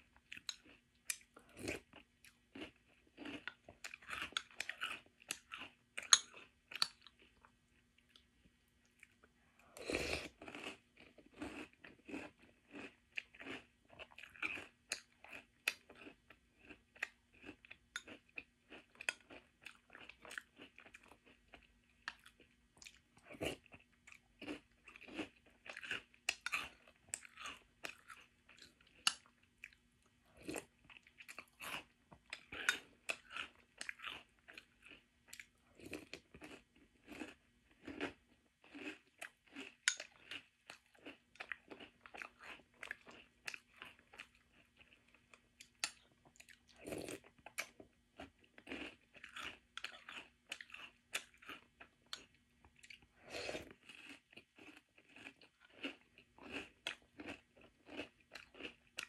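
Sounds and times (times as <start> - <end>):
crunching and chewing cereal: 0.0 - 59.0.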